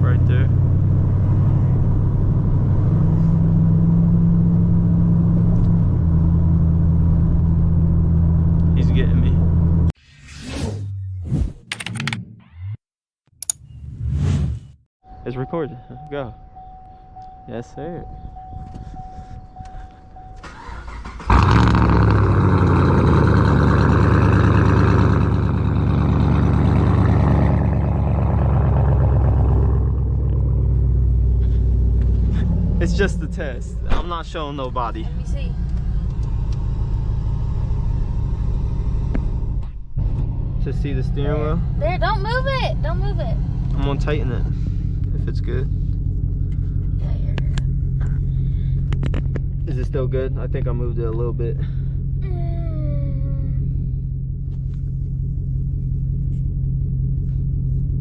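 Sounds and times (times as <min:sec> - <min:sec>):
car exhaust deep rumble: 0:00.0 - 0:10.0, 0:21.3 - 0:58.0.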